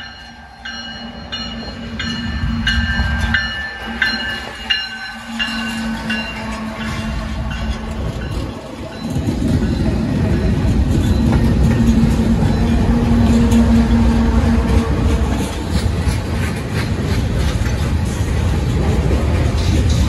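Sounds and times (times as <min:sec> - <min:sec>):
locomotive engine rumble: 0:00.0 - 0:20.0
train wheels rolling past: 0:00.0 - 0:20.0.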